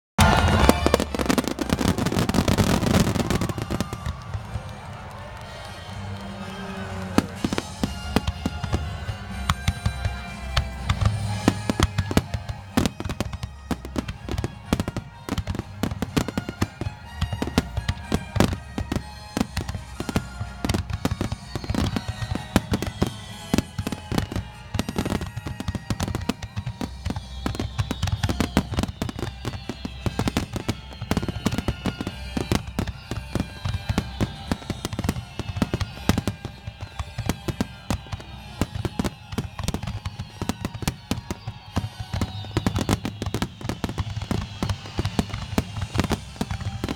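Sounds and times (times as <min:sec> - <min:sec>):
falling firework whistles: 0:00.2 - 0:06.0, 0:07.1 - 0:46.9
firework shells bursting and crackling: 0:00.2 - 0:46.9.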